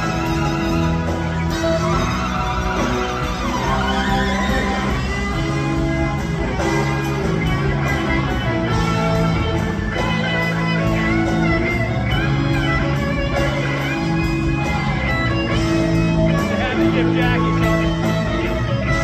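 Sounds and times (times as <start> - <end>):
electric guitar bending notes: 0.0 - 19.0
live rock band playing: 0.0 - 19.0.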